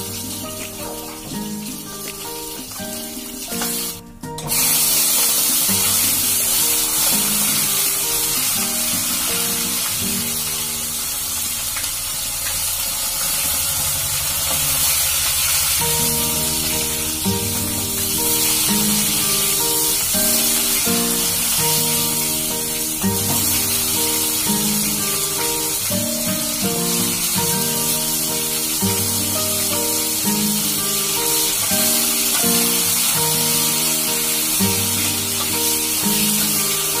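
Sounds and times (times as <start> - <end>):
background music: 0.0 - 11.4, 15.8 - 37.0
food sizzling in hot oil: 0.0 - 37.0.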